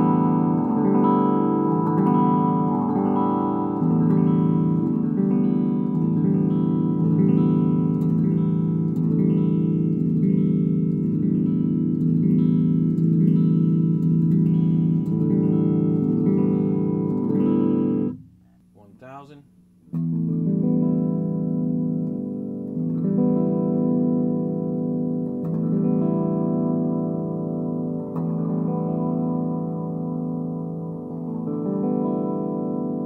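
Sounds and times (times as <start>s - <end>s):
electric guitar chords strummed: 0.0s - 18.4s, 19.8s - 33.0s.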